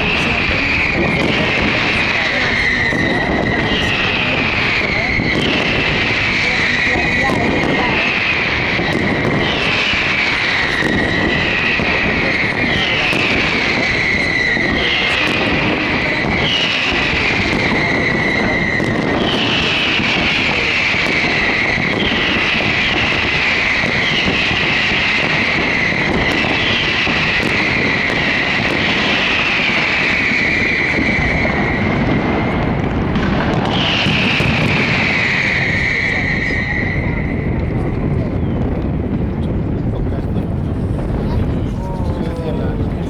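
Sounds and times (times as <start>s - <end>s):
fireworks bursts and crackling: 0.0s - 43.0s
whistling fireworks: 0.0s - 43.0s.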